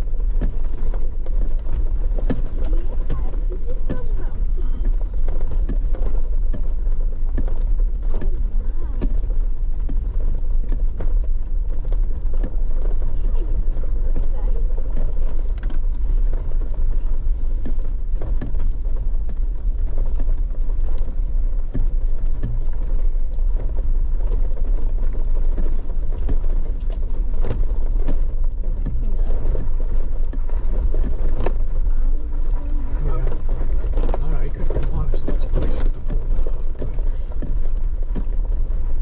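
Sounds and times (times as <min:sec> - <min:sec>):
knocks and rattles over bumps: 0:00.0 - 0:39.0
vehicle engine and road rumble: 0:00.0 - 0:39.0.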